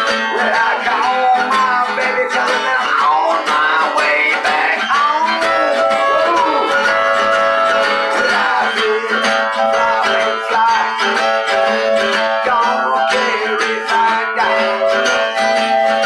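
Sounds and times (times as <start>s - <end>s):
blues harmonica: 0.0s - 16.0s
strummed acoustic guitar: 0.0s - 16.0s.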